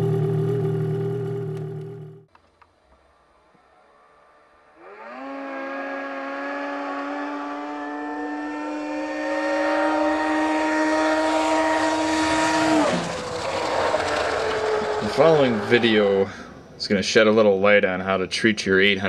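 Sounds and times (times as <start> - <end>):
snowmobile engine revving: 0.0 - 2.2, 3.0 - 17.0.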